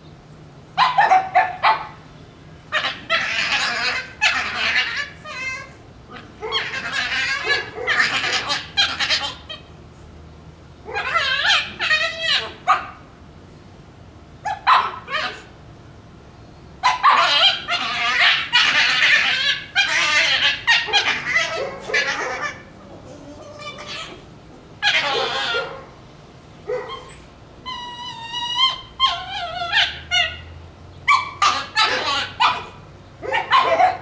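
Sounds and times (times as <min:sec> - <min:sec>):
puppies whining and yipping: 0:00.7 - 0:02.0, 0:02.7 - 0:09.7, 0:10.9 - 0:13.0, 0:14.4 - 0:15.5, 0:16.8 - 0:25.9, 0:26.7 - 0:34.0
puppies screaming: 0:00.7 - 0:09.8, 0:10.8 - 0:13.2, 0:14.4 - 0:15.6, 0:16.8 - 0:26.0, 0:26.6 - 0:34.0
puppies yelping: 0:00.7 - 0:09.8, 0:10.8 - 0:13.2, 0:14.4 - 0:15.7, 0:16.6 - 0:26.0, 0:26.6 - 0:34.0.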